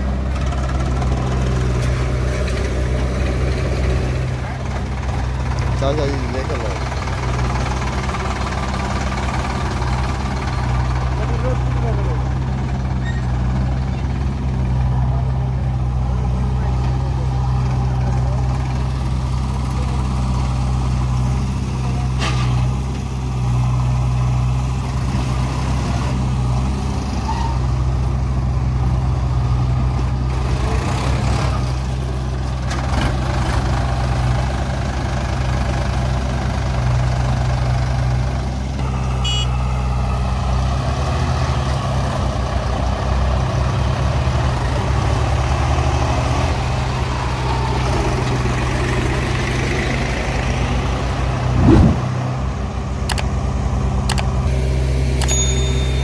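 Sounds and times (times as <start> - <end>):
backhoe loader engine running: 0.0 - 56.0
tractor diesel engine running: 0.0 - 56.0.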